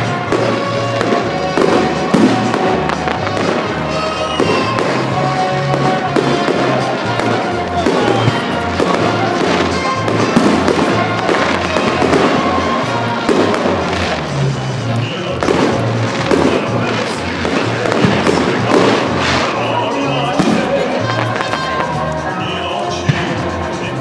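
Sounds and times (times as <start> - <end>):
fireworks bangs and crackle: 0.0 - 24.0
loud music with bass line: 0.0 - 24.0.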